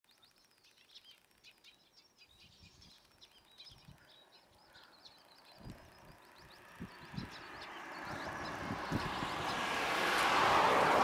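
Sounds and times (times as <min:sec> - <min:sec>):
faint small birds chirping: 0:00.0 - 0:09.2.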